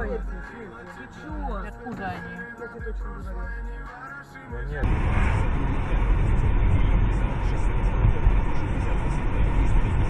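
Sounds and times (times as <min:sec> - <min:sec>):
car interior road rumble: 0:00.0 - 0:10.0.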